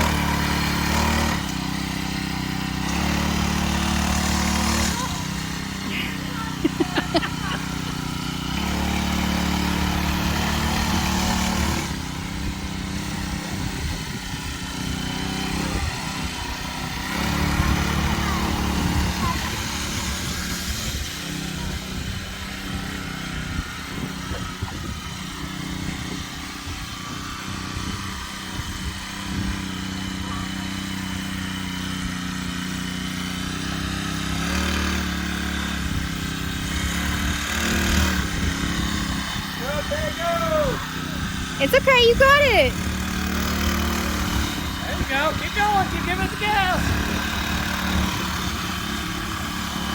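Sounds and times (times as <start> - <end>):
mini bike engine running: 0.0 - 49.9.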